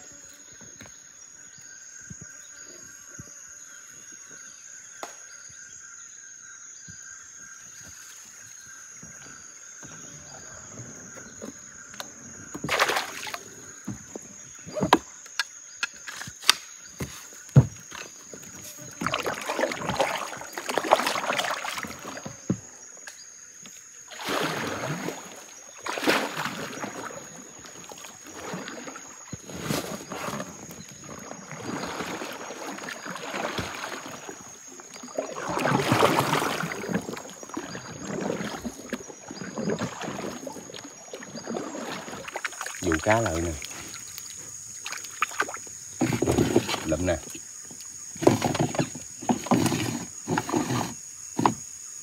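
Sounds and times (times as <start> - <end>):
high-pitched insect trill: 0.0 - 52.0
water splashing and sloshing: 7.6 - 51.8.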